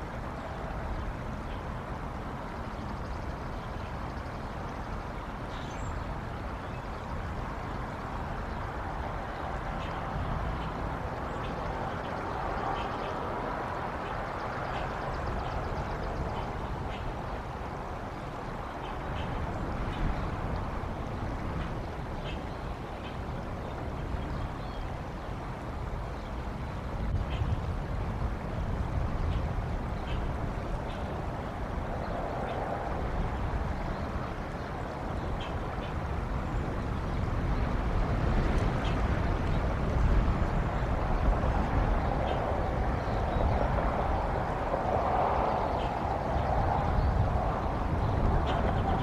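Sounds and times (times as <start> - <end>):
small birds chirping faintly: 0.0 - 49.0
wind on microphone: 0.0 - 49.0.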